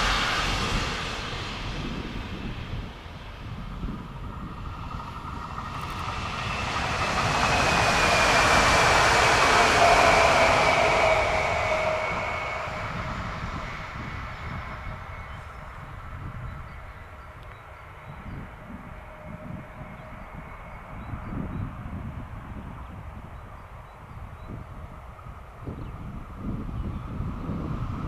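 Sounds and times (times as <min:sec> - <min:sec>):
electric train passing: 0:00.0 - 0:28.0
wheels rumbling on rail: 0:00.0 - 0:28.0.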